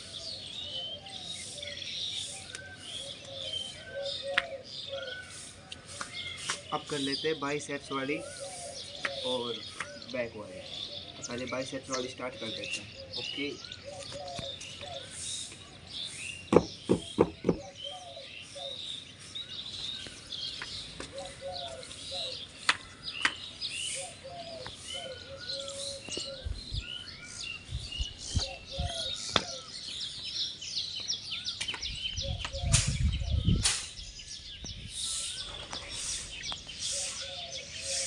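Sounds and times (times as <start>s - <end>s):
birds chirping and calling: 0.0s - 38.0s.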